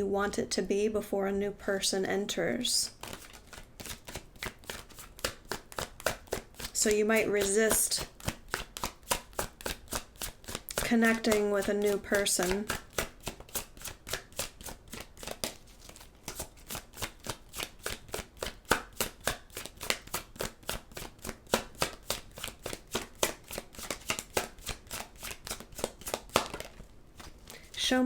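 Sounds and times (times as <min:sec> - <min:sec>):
cards being shuffled: 0:02.9 - 0:27.8.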